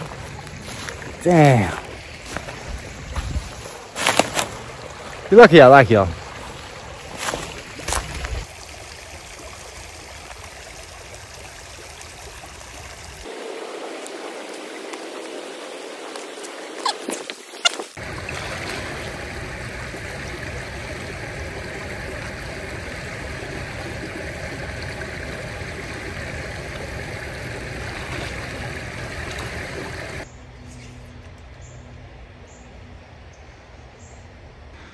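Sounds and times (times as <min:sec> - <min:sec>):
creek water rushing: 0:00.0 - 0:30.3.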